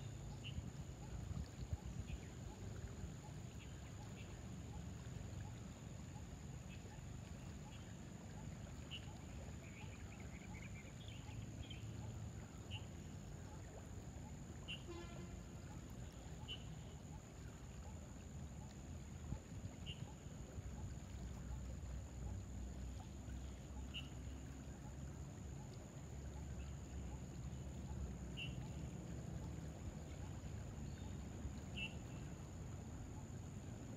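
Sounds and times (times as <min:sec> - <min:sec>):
river water rumble: 0:00.0 - 0:33.9.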